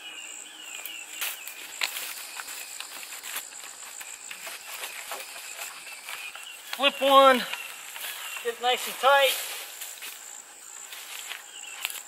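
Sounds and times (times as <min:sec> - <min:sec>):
insects droning: 0:00.0 - 0:12.0
dry leaves crackling: 0:00.6 - 0:12.0.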